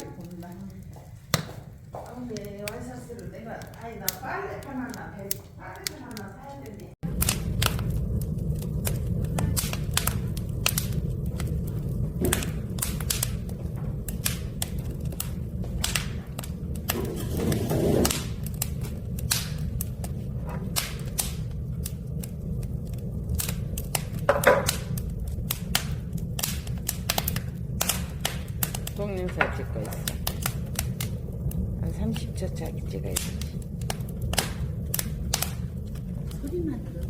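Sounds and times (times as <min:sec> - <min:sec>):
furnace low rumble: 0:00.0 - 0:37.0
wood fire crackling and popping: 0:00.0 - 0:37.0.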